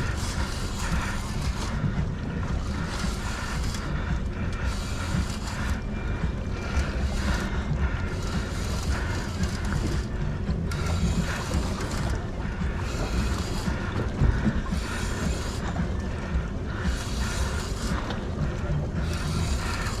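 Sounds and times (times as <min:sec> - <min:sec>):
fishing reel cranking: 0:00.0 - 0:20.0
low rumble of wind and boat: 0:00.0 - 0:20.0.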